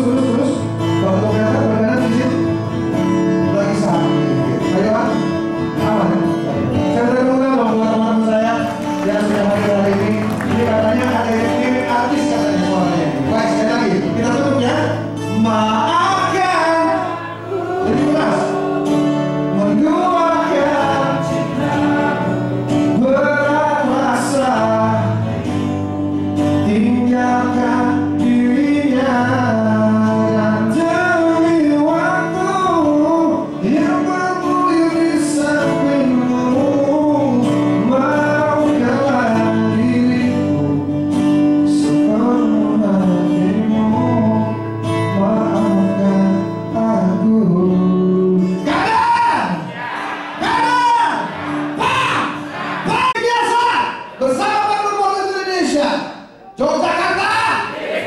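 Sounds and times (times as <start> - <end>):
man singing into microphone: 0.0 - 25.5, 26.6 - 49.7
amplified instrumental accompaniment: 0.0 - 53.3.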